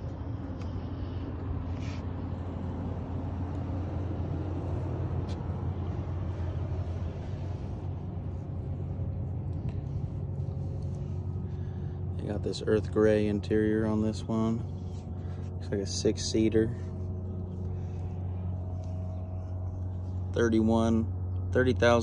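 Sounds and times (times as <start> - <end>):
pickup engine idling: 0.0 - 22.0.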